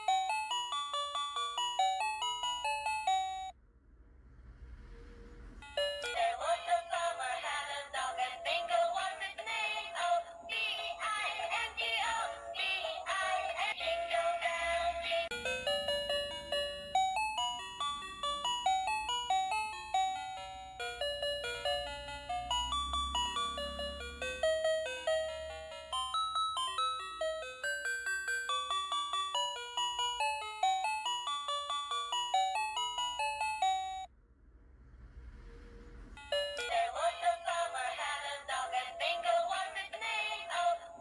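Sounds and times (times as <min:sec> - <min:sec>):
toy robot electronic chime melody: 0:00.0 - 0:03.5, 0:05.6 - 0:34.1, 0:36.2 - 0:41.0.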